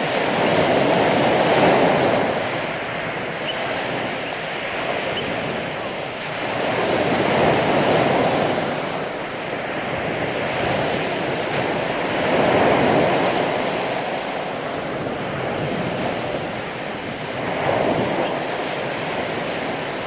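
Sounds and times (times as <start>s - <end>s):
ocean waves washing onto beach: 0.0s - 20.0s.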